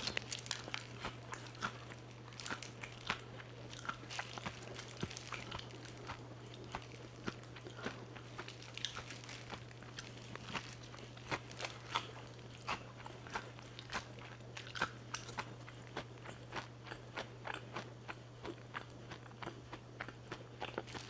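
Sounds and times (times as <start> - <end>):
crunching fried chicken: 0.0 - 21.0.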